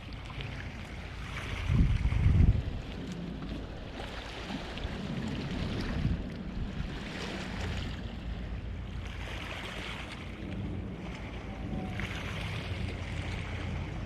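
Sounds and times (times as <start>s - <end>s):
strong wind gusts: 0.0s - 14.0s
wind buffeting microphone: 0.0s - 14.0s.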